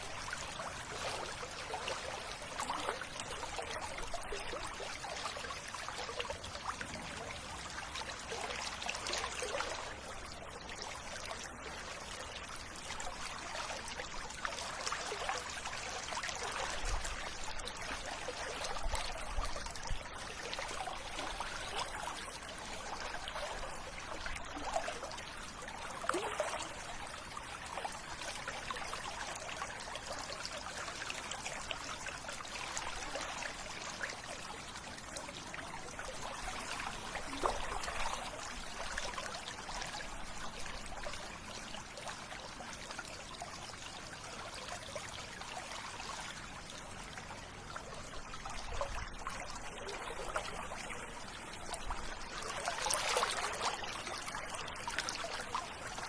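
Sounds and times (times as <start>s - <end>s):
river water flowing and trickling: 0.0s - 56.0s.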